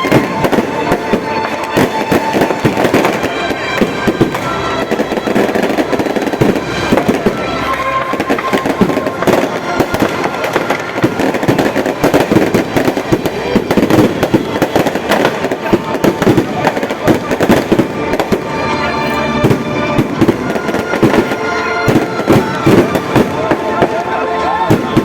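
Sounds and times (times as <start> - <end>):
faint music: 0.0 - 25.0
fireworks popping and cracking: 0.0 - 25.0.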